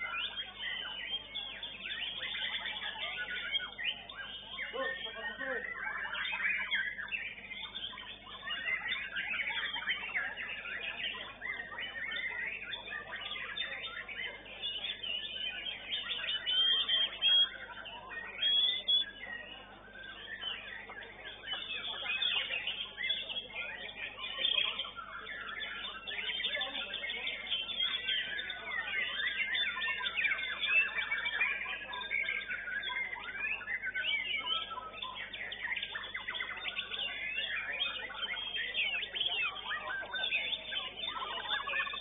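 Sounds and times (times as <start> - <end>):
birds singing: 0.0 - 42.0.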